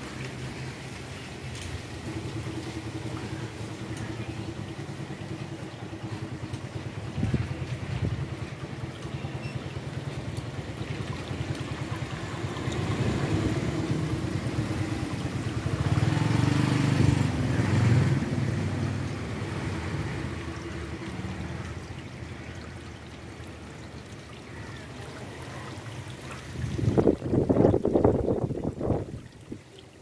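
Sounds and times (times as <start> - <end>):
fountain water trickling and splashing: 0.0 - 30.0.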